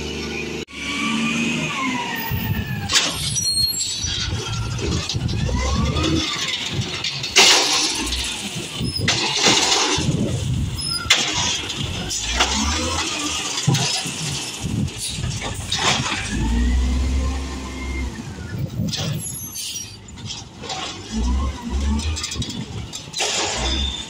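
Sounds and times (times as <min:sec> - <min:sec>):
diesel engine running: 0:00.0 - 0:19.4
hydraulics squealing and whining: 0:00.0 - 0:24.0.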